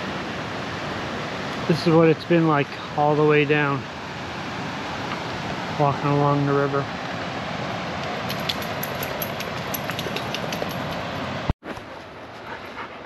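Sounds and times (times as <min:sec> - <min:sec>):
river water over rocks: 0:00.0 - 0:11.5.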